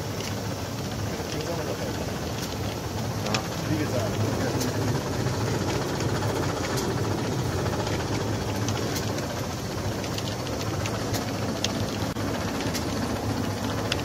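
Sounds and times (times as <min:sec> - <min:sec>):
sharp mechanical clicks: 0:00.1 - 0:14.0.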